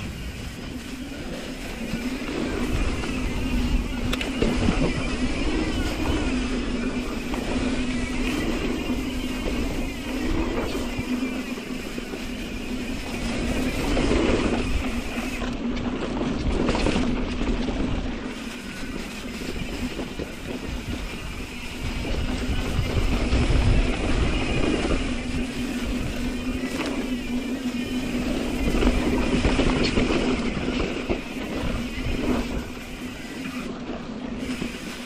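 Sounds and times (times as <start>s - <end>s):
bike rattling over bumps: 0.0s - 35.0s
bike tyre roar: 0.0s - 35.0s
wind rushing over microphone: 0.0s - 35.0s.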